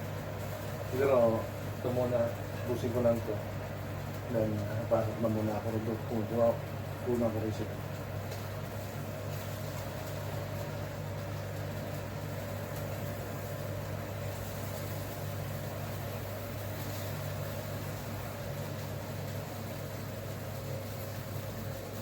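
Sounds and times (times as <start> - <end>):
kitchen appliance humming: 0.0 - 22.0.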